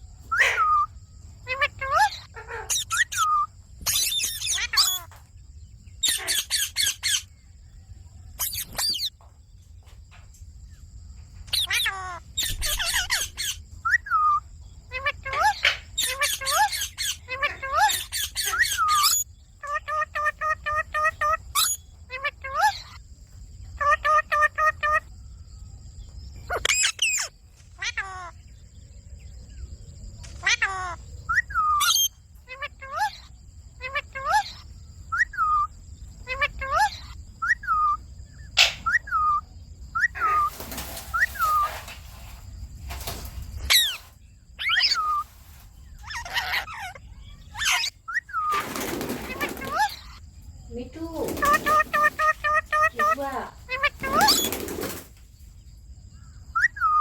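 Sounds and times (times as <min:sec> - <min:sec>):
parrots squawking and chattering: 0:00.2 - 0:07.4, 0:08.2 - 0:09.3, 0:11.4 - 0:25.1, 0:26.4 - 0:28.6, 0:30.2 - 0:55.2, 0:56.4 - 0:57.0.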